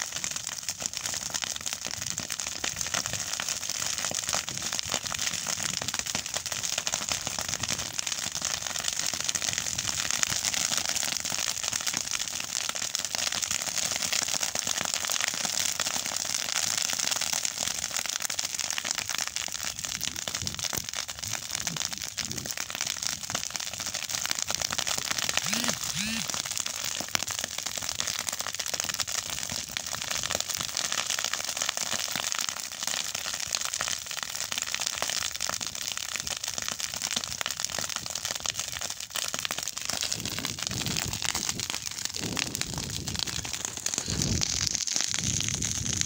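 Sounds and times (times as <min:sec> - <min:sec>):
grass burning crackling: 0:00.0 - 0:46.0.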